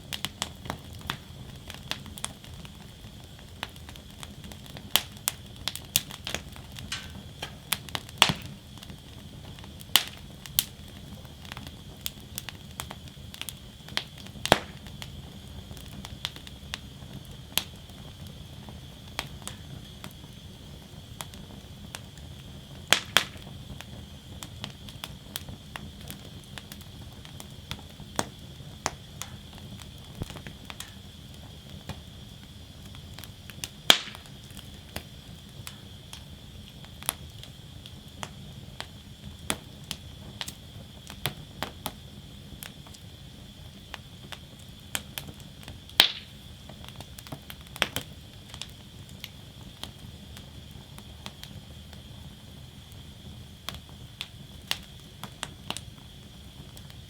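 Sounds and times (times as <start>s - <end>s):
faint fire hiss: 0.0s - 57.0s
loud fire pops: 0.0s - 57.0s
wood fire crackling and snapping: 0.0s - 57.0s.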